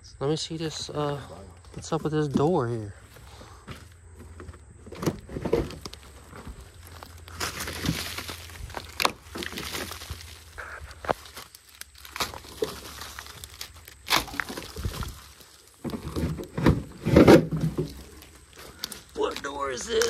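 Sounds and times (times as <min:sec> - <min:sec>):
debris and boards crunching: 0:03.2 - 0:20.0.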